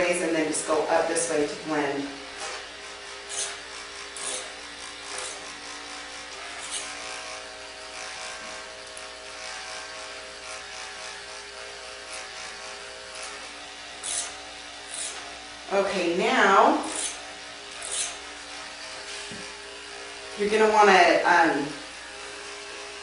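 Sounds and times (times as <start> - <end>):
clipper blades scratching hair: 0.0 - 23.0
electric hair clippers buzzing: 0.0 - 23.0.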